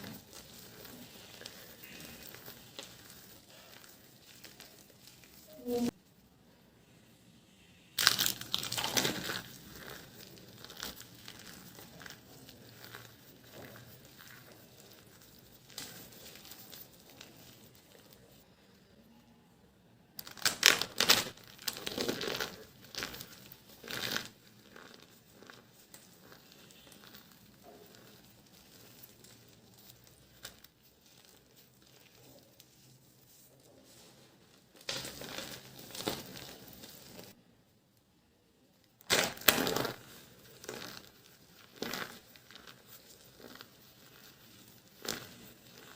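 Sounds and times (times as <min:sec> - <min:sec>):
dry soap crackling and crunching: 0:00.0 - 0:06.0, 0:08.0 - 0:18.5, 0:20.2 - 0:37.4, 0:38.9 - 0:45.9.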